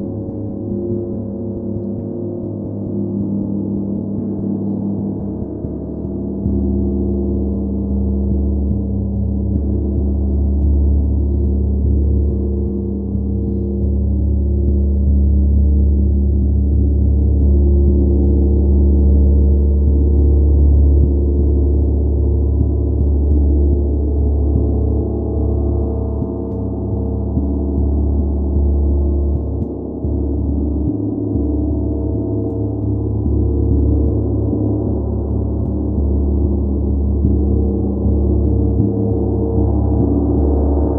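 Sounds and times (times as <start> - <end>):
large gong droning hum: 0.0 - 40.9.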